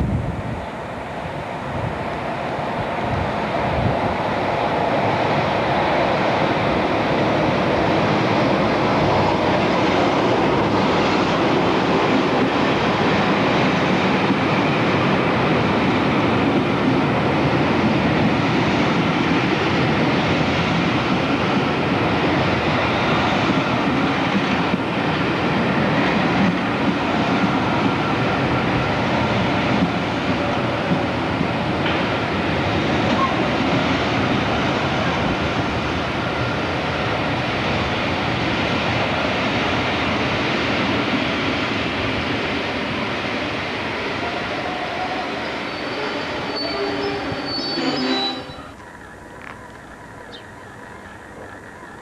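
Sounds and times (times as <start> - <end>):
diesel train rumbling: 0.0 - 52.0.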